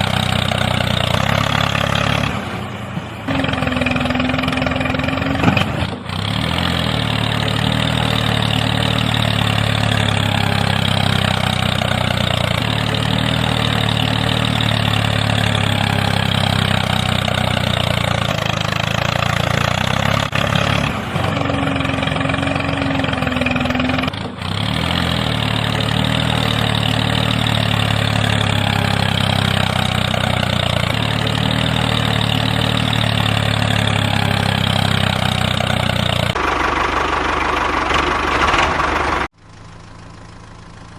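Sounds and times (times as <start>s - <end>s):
small engine idling: 0.0s - 40.9s.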